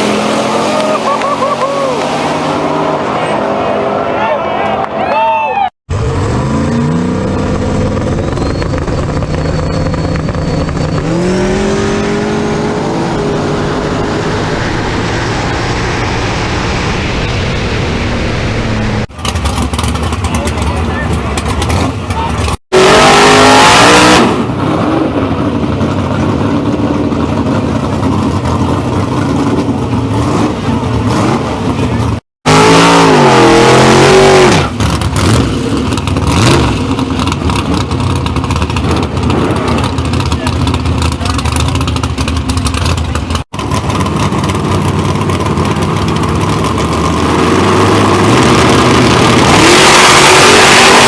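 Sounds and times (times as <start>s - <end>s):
drag race car engine at full throttle: 0.0s - 5.0s, 5.9s - 51.0s.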